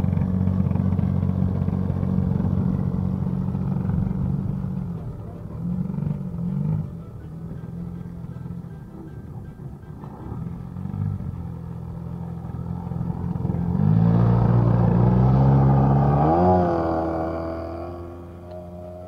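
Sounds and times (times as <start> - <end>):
model airplane engine: 0.0 - 19.0.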